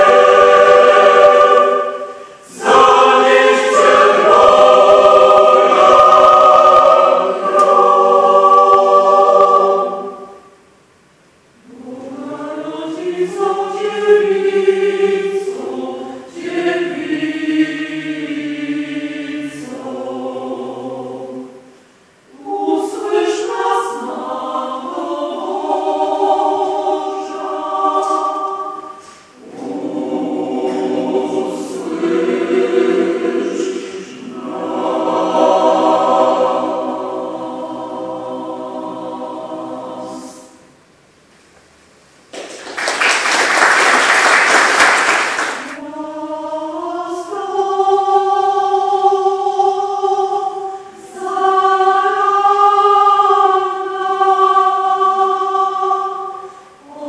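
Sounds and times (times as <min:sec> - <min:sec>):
mixed choir singing: 0:00.0 - 0:10.6, 0:11.6 - 0:40.9, 0:42.7 - 0:57.0.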